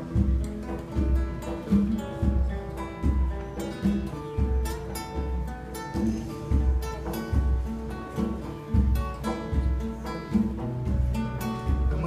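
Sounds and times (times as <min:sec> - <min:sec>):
plucked instrumental music: 0:00.0 - 0:12.0.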